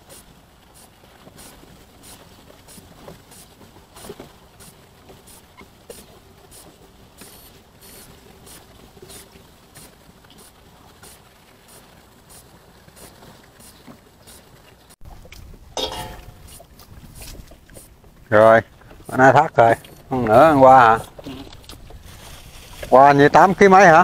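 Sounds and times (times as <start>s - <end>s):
water slapping boat hull: 0.0s - 24.0s.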